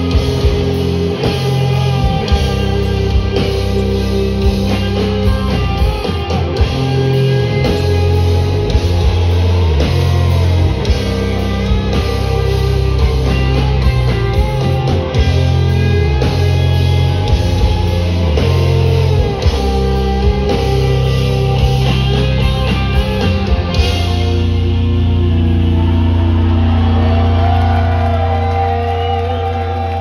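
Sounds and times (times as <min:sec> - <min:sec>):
bass notes: 0:00.0 - 0:30.0
drums keeping time: 0:00.0 - 0:30.0
electric guitars: 0:00.0 - 0:30.0.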